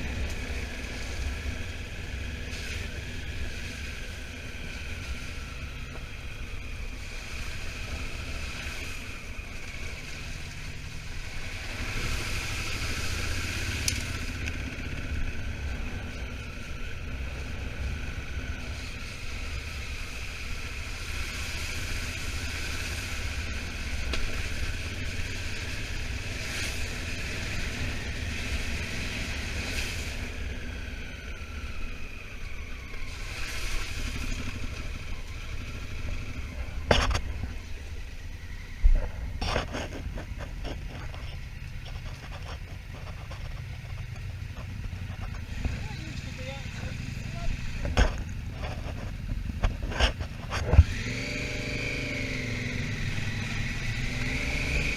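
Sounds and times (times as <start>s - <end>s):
motorcycle engine droning: 0.0s - 54.9s.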